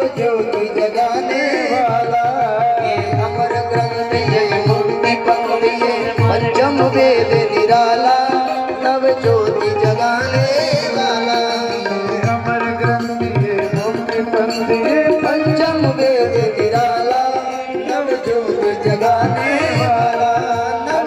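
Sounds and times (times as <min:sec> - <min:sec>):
devotional singing: 0:00.0 - 0:21.0
harmonium: 0:00.0 - 0:21.0.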